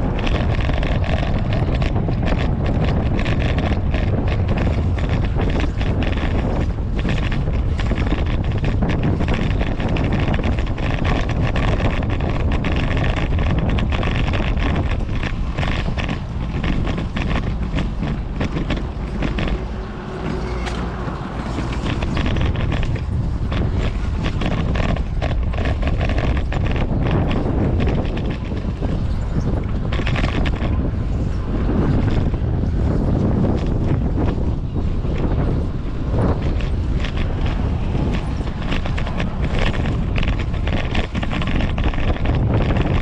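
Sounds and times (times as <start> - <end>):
bicycle rattling over brick pavers: 0.0 - 43.0
wind rushing over microphone: 0.0 - 43.0.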